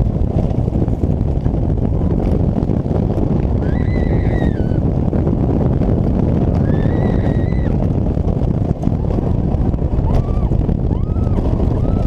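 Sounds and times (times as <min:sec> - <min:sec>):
roller coaster rumbling on track: 0:00.0 - 0:12.0
wind rush on microphone: 0:00.0 - 0:12.0.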